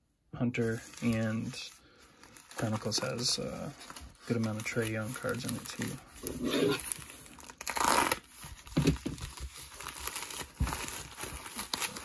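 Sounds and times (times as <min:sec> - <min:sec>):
plastic mailer crinkling and ripping: 0:00.7 - 0:12.0.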